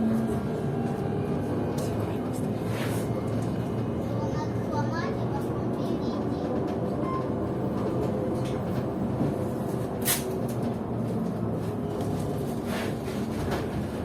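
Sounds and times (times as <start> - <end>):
trolleybus rumble and rattle: 0.0 - 14.0.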